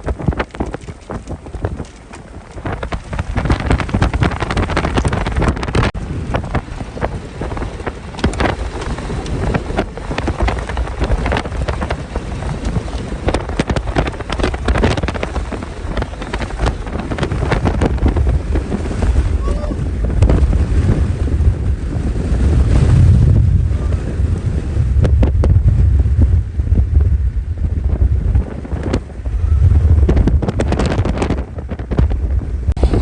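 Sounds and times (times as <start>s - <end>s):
heavy low rumble: 0.0s - 33.0s
storm wind buffeting microphone: 0.0s - 33.0s.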